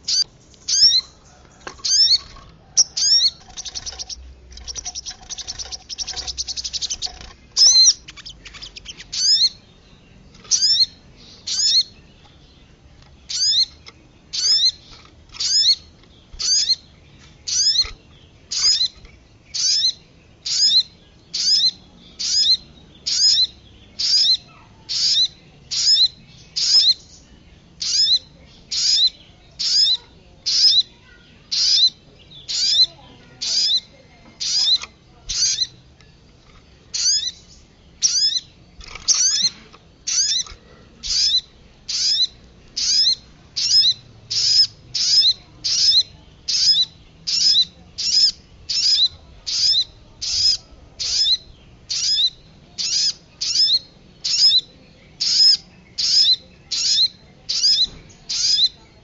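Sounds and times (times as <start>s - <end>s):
sharp high bird calls: 0.0s - 9.7s, 10.5s - 12.0s, 13.3s - 35.8s, 36.9s - 58.8s
chattering bird trill: 0.0s - 59.0s.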